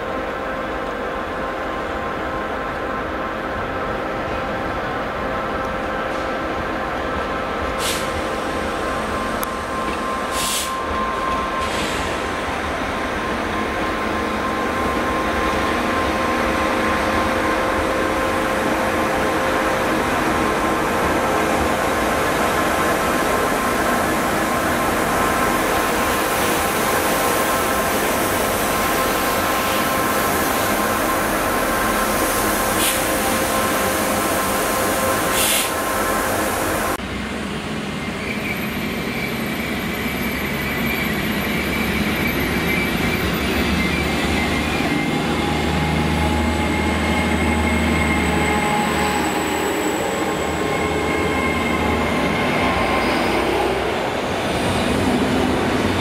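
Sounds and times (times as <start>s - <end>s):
train rumbling: 0.0s - 56.0s
train whine: 0.0s - 56.0s.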